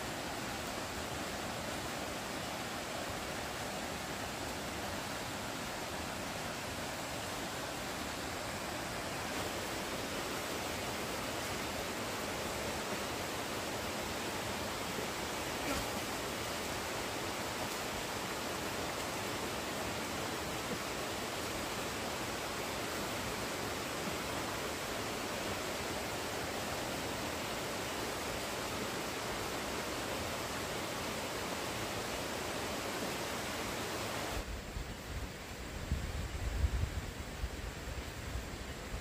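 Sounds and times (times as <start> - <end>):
steady rushing hiss: 0.0 - 39.0.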